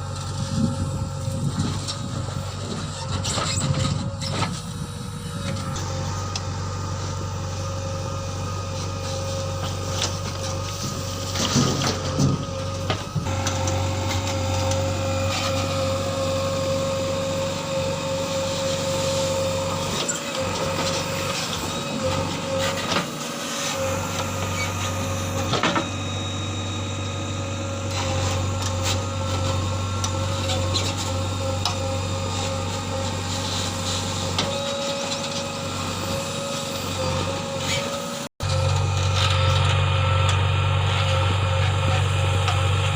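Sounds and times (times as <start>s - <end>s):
steady whine: 0.0s - 34.5s
diesel engine running: 0.0s - 42.9s.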